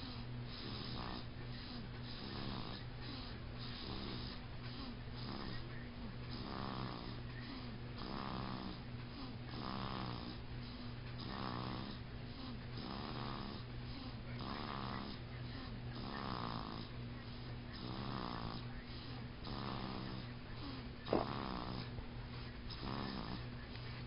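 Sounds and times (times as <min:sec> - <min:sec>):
baby snoring heavily: 0:00.0 - 0:05.7, 0:06.3 - 0:22.0, 0:22.7 - 0:23.5.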